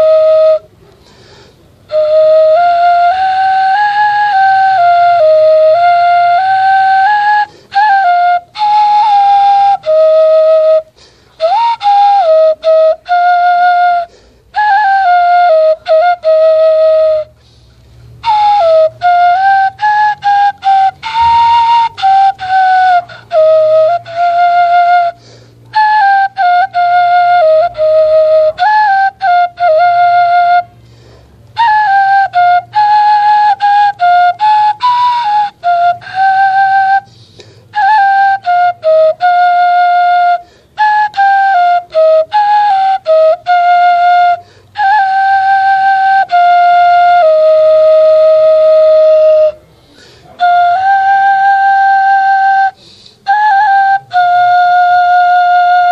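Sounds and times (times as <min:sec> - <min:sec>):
bamboo flute melody: 0:00.0 - 0:55.9.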